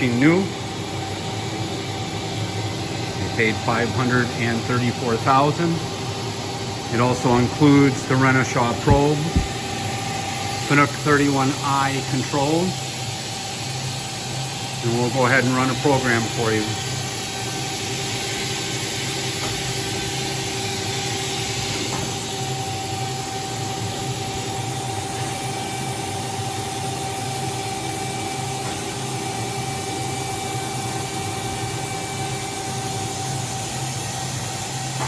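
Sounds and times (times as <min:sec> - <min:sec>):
machining center running: 0:00.0 - 0:35.0
steady machine tones: 0:00.0 - 0:35.0.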